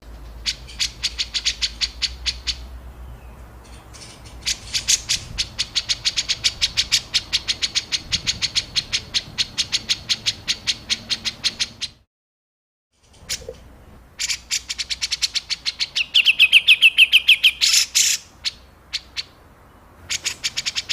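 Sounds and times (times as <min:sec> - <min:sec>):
songbird harsh repeated call: 0:00.4 - 0:02.8, 0:04.4 - 0:12.0, 0:14.2 - 0:20.9.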